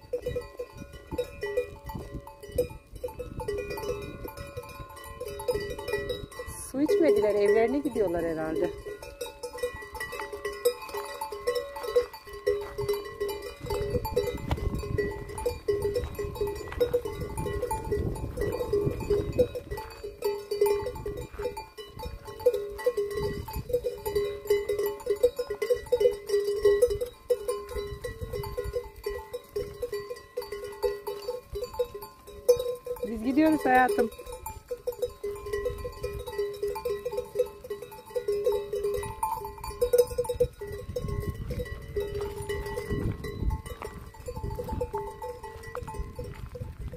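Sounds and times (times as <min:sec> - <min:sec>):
goat bells clanking: 0:00.0 - 0:46.9.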